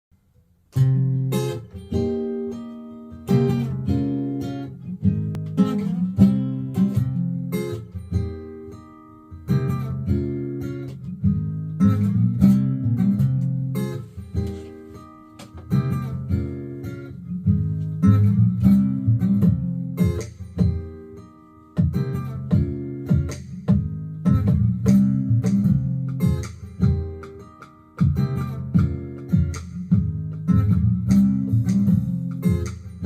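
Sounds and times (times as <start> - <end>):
acoustic guitar strumming chords: 0.7 - 33.0.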